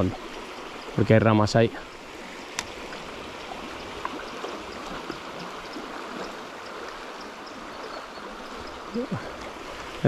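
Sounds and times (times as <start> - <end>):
fast river rushing: 0.0 - 10.0.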